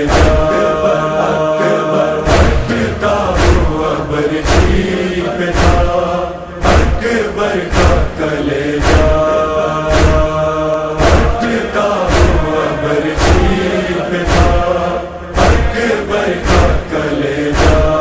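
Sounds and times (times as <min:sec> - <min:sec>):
deep thuds marking the beat: 0:00.0 - 0:00.9, 0:02.2 - 0:18.0
men chanting a lament: 0:00.0 - 0:18.0.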